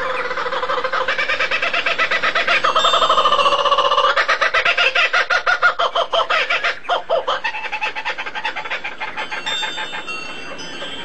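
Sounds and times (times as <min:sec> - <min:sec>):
fowl clucking: 0:00.0 - 0:11.0.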